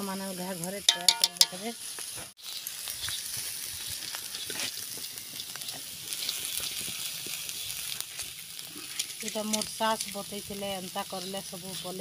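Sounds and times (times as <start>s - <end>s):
shrimp sizzling in oil: 0.0s - 12.0s.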